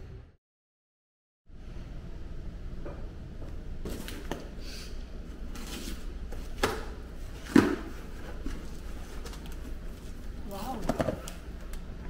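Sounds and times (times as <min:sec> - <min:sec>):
low steady hum: 0:01.5 - 0:12.0.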